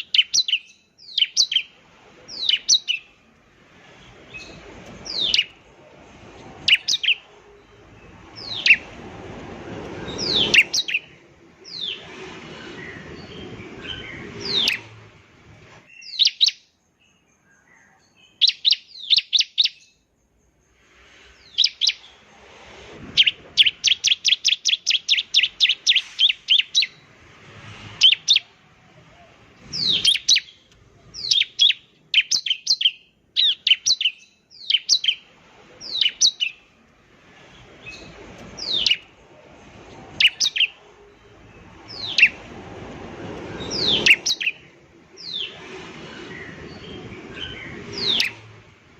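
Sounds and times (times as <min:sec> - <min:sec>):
bird chirping: 0:00.0 - 0:22.2, 0:23.1 - 0:27.1, 0:27.9 - 0:36.8, 0:37.4 - 0:42.6, 0:43.3 - 0:48.9.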